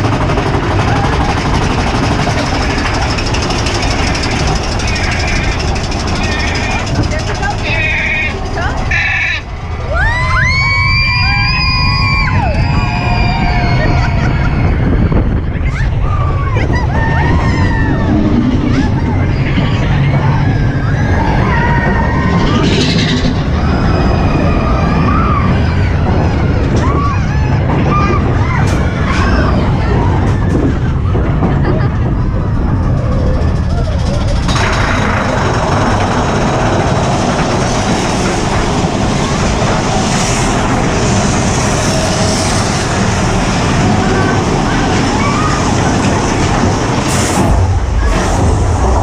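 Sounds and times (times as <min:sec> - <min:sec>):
roller coaster rumble and rattle: 0:00.0 - 0:49.0.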